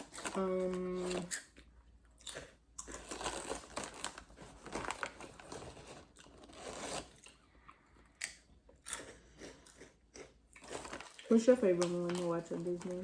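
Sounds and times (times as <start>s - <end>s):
chips being chewed crunchily: 0.0s - 13.0s.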